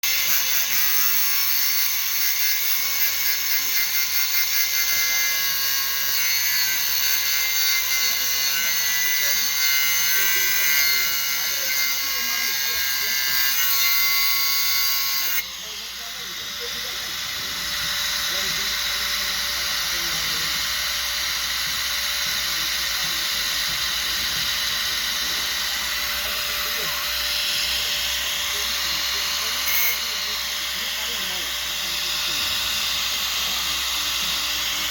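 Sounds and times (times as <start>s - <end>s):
angle grinder cutting concrete: 0.0s - 34.9s.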